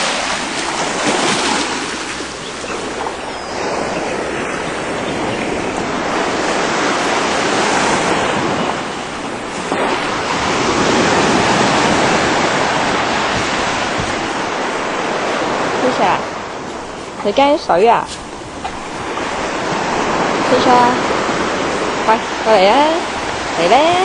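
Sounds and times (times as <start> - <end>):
sea surf washing onto beach: 0.0 - 24.0.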